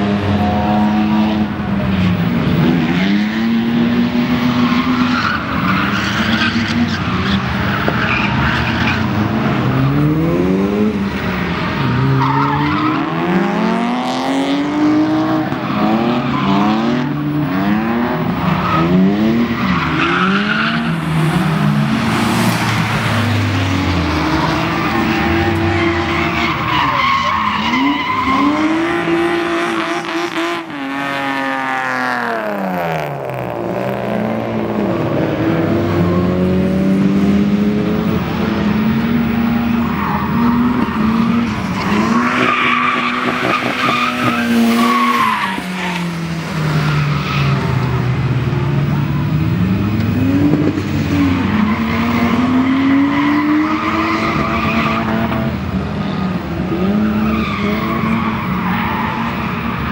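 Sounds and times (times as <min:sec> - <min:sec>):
tyres squealing and skidding: 0:00.0 - 0:36.7, 0:38.2 - 0:59.9
car engines revving: 0:00.0 - 0:59.9.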